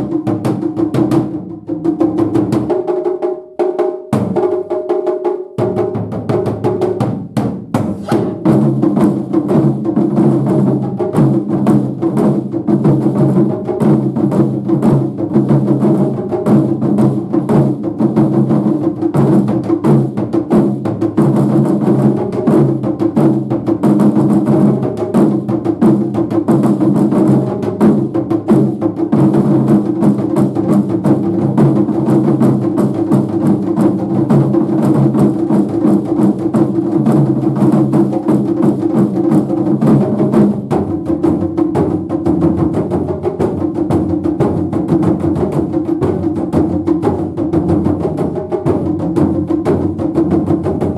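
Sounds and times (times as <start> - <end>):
drum ensemble playing: 0.0 - 50.9.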